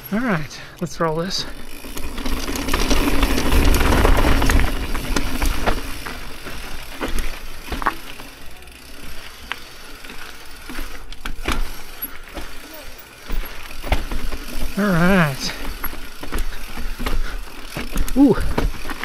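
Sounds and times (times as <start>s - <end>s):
bike rattling: 0.0s - 19.0s
bike tyres rumbling over dirt: 1.0s - 19.0s
sharp knocks of bike on bumps: 1.7s - 19.0s.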